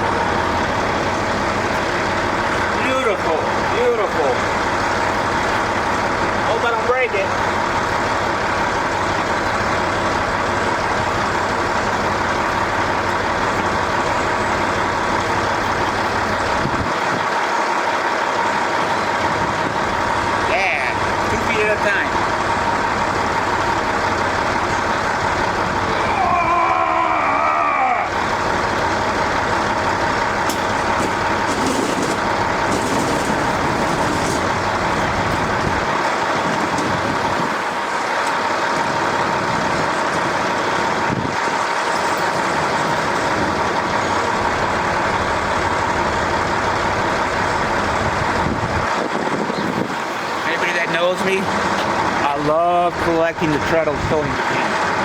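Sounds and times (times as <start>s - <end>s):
loud rushing mechanical noise: 0.0s - 55.0s.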